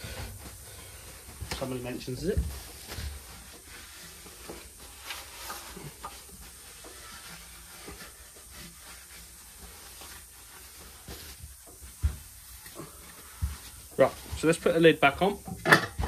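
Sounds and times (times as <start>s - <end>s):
paper tissue rustling and wiping: 0.0s - 15.3s
steady hiss: 0.0s - 16.0s.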